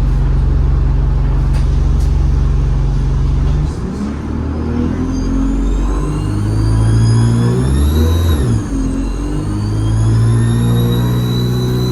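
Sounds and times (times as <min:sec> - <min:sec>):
bus engine drone: 0:00.0 - 0:11.9.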